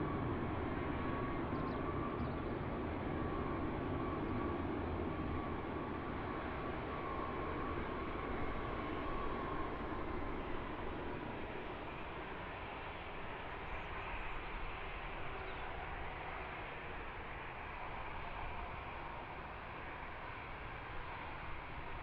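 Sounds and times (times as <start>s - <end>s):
turboprop engines running: 0.0s - 22.0s.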